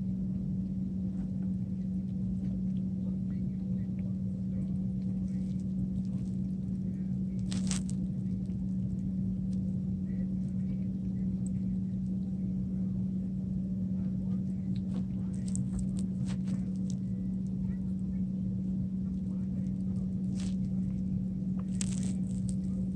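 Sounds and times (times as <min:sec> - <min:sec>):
steady low hum: 0:00.0 - 0:22.9
kitten eating clicks: 0:02.1 - 0:12.4, 0:14.3 - 0:22.9.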